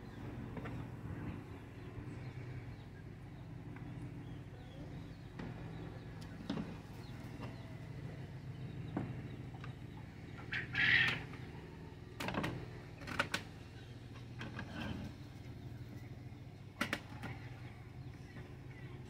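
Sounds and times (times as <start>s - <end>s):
chickens clucking: 0.0s - 16.2s
steady low hum: 0.0s - 19.0s.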